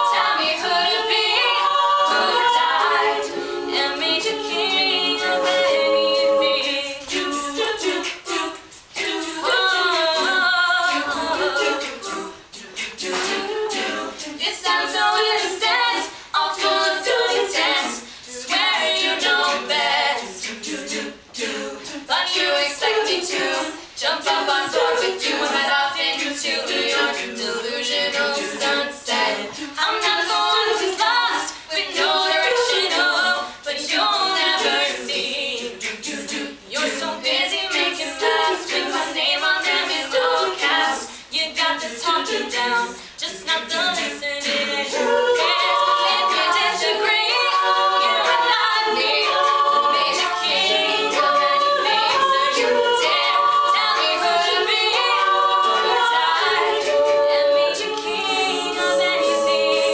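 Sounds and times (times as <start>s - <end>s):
female a cappella group singing: 0.0s - 59.9s.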